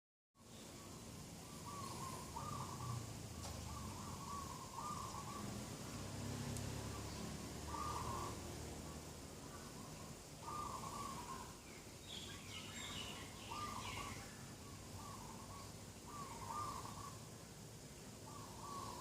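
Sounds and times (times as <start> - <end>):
birds warbling calls: 0.4 - 19.0.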